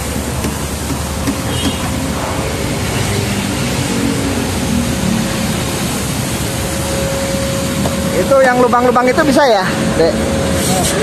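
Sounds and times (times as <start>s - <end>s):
car wash machinery rushing: 0.0s - 11.0s.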